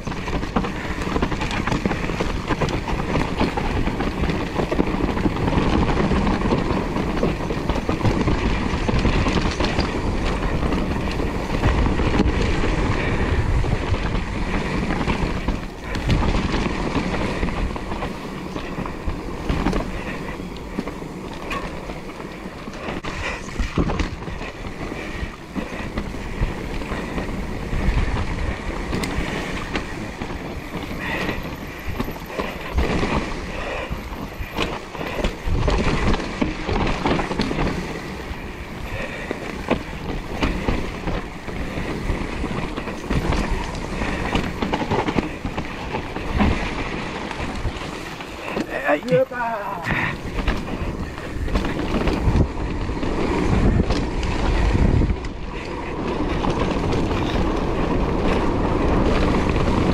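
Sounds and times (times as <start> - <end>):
bike rattling: 0.0 - 59.9
bike tyres rolling over dirt: 0.0 - 59.9.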